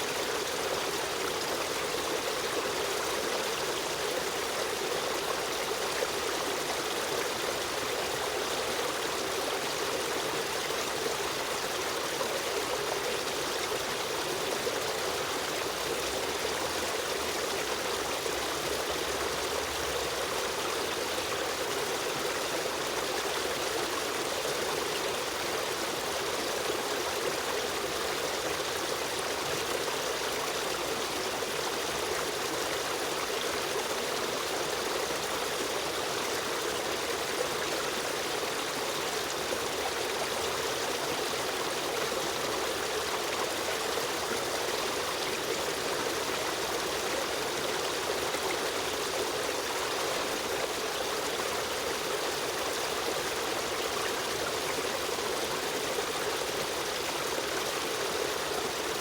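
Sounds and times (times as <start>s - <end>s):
stream water over rocks: 0.0s - 59.0s.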